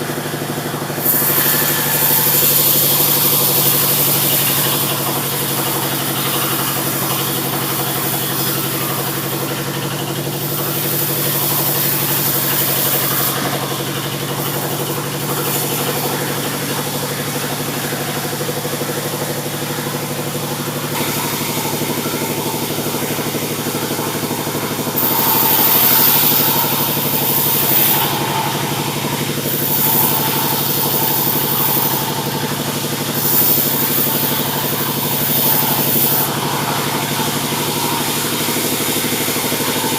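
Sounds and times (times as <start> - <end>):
saw blade cutting wood: 0.0 - 39.9
sawmill engine drone: 0.0 - 39.9.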